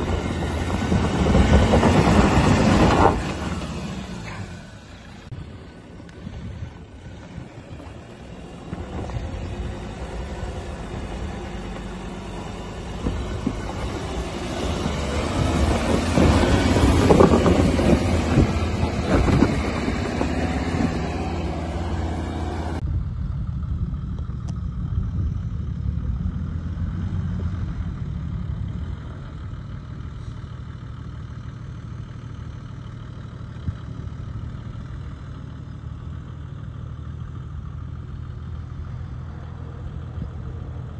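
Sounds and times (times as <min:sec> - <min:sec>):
truck engine at low revs: 0:00.0 - 0:40.9
truck engine revving uphill: 0:00.0 - 0:40.9.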